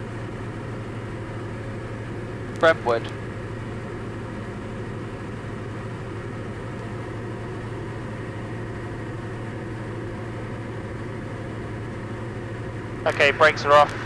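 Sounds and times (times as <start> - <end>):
aircraft engine droning in cabin: 0.0 - 14.0.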